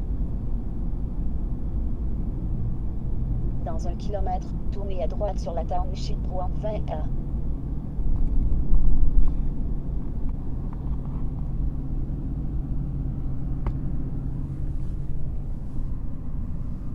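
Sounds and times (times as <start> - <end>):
truck engine and tyres rumbling: 0.0 - 16.9.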